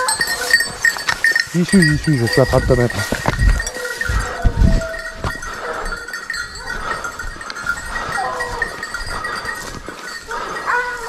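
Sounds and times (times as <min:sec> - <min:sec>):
brush crunching: 0:00.0 - 0:11.0
hounds baying: 0:00.0 - 0:11.0.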